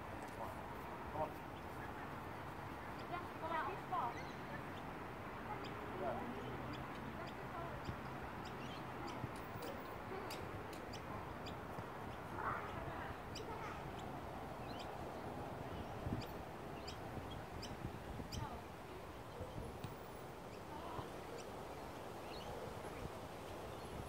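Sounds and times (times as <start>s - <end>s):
faint distant voices: 0.0s - 24.0s.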